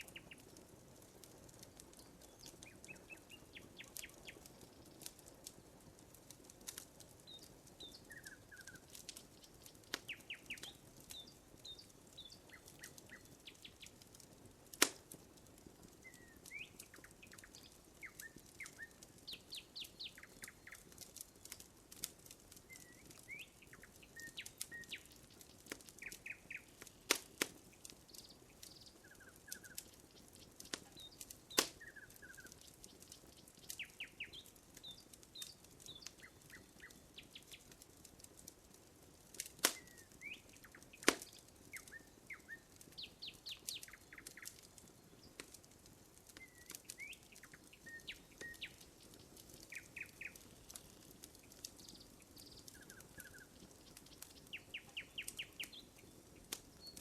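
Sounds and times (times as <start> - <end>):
small birds chirping: 0.0 - 57.0
wood fire crackling and popping: 0.0 - 57.0.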